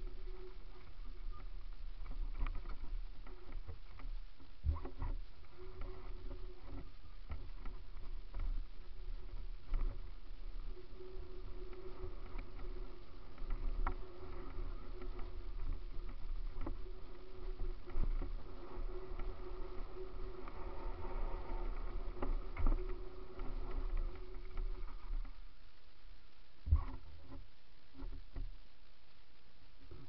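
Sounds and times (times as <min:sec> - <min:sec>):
steady whining tone: 0:00.0 - 0:29.2.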